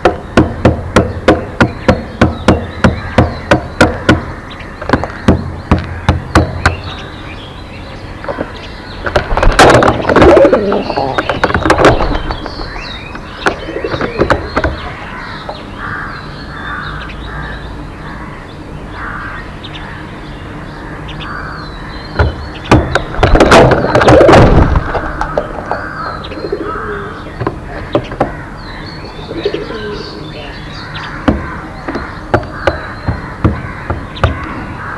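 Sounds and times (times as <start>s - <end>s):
high bird chirps: 0.0s - 34.9s
repeated bird calls: 0.0s - 34.9s.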